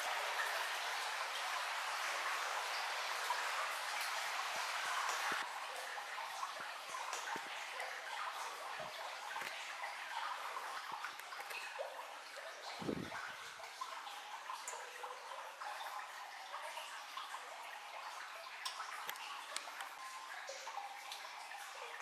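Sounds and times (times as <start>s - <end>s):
water drips: 0.0s - 22.0s
water trickling: 0.0s - 22.0s.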